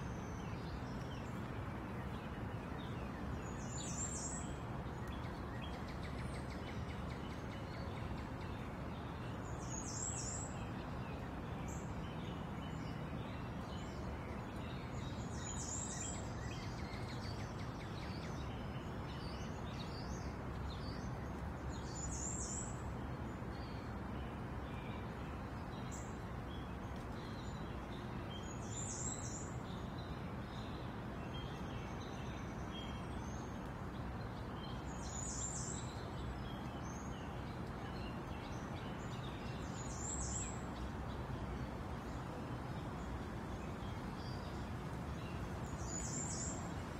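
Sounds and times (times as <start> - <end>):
outdoor background noise: 0.0 - 46.9.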